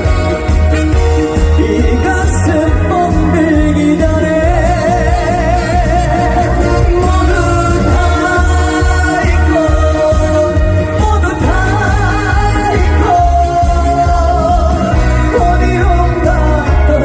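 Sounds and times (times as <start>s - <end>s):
backing track with bass beat: 0.0s - 17.0s.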